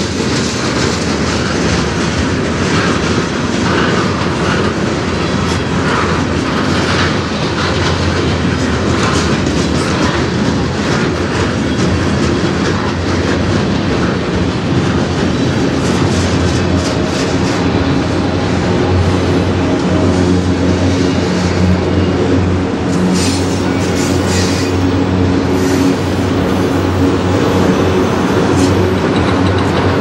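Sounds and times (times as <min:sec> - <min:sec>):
steel wheels rumbling on rails: 0:00.0 - 0:30.0
wheels clicking over rail joints: 0:00.0 - 0:30.0.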